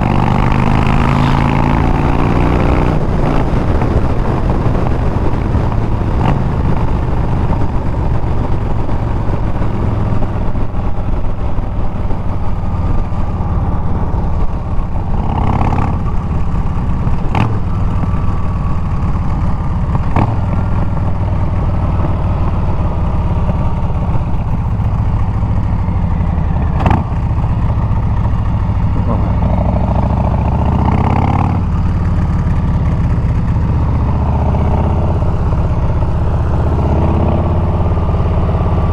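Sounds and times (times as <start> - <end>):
motorcycle engine riding: 0.0 - 38.9.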